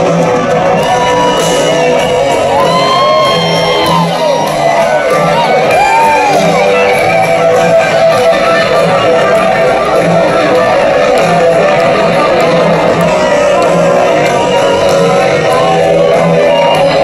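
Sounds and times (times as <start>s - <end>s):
crowd shouting: 0.0s - 17.0s
electric guitar solo: 0.0s - 17.0s
live rock band playing: 0.0s - 17.0s.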